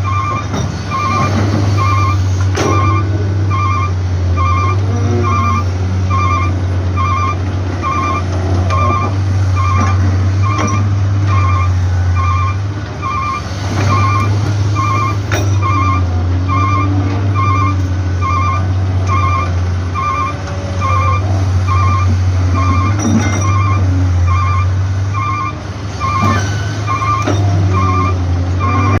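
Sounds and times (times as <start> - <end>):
excavator diesel engine running: 0.0 - 29.0
warning beeper beeping: 0.0 - 29.0.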